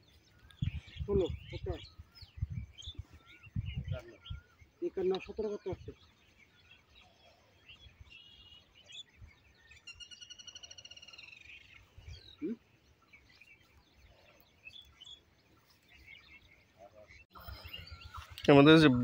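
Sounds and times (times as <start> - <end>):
bird chirps and trills: 0.0 - 19.0.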